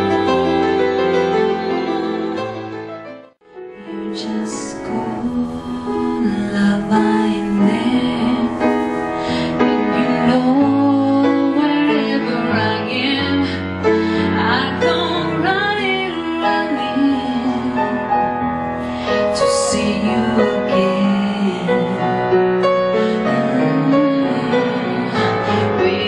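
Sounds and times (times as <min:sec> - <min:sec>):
woman singing: 0:00.0 - 0:02.7, 0:03.7 - 0:18.3, 0:19.0 - 0:26.0
piano accompaniment: 0:00.0 - 0:26.0.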